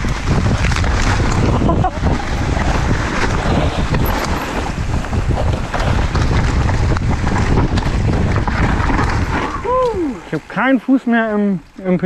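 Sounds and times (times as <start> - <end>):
bike rattling over bumps: 0.0 - 12.0
wind buffeting the microphone: 0.0 - 12.0
tyres rolling over leaves: 0.5 - 12.0.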